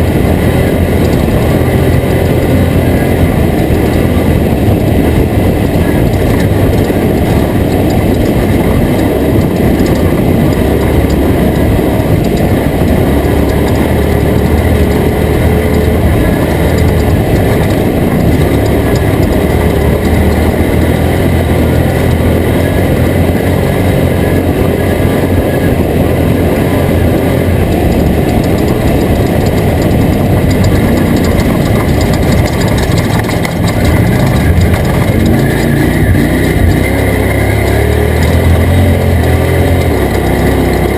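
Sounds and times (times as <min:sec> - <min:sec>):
rattling and clatter: 0:00.0 - 0:40.9
truck engine drone: 0:00.0 - 0:40.9.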